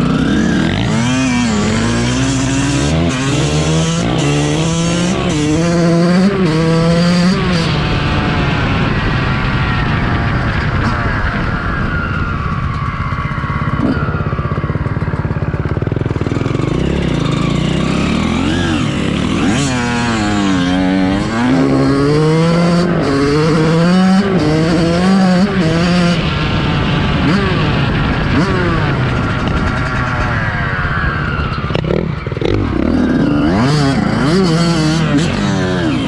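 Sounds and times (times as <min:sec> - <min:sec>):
motocross bike engine revving: 0:00.0 - 0:08.9, 0:13.7 - 0:30.4, 0:31.7 - 0:36.0.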